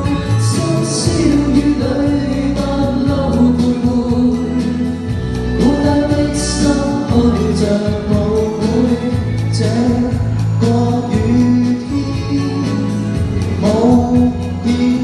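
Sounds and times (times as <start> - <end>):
instrumental music through speakers: 0.0 - 15.0.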